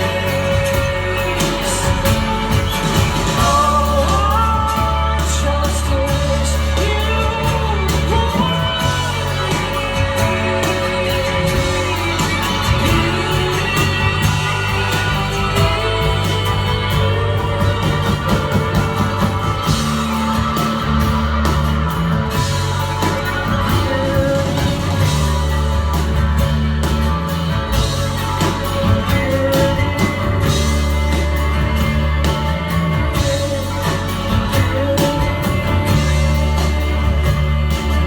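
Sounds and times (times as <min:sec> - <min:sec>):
live band playing: 0:00.0 - 0:38.0.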